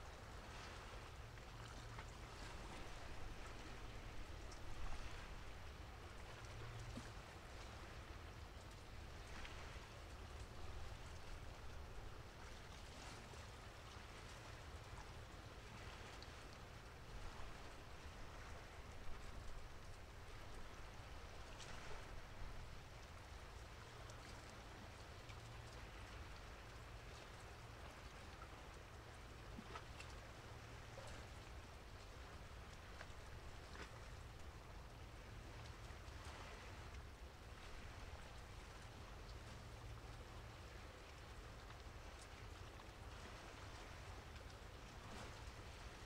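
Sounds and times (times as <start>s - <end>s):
faint steady rain: 0.0s - 46.0s.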